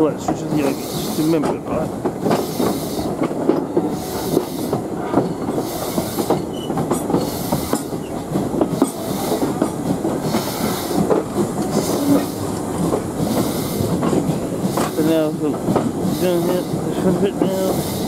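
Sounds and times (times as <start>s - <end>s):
steam locomotive hiss: 0.0s - 18.0s
train wheels clattering over rails: 0.0s - 18.0s.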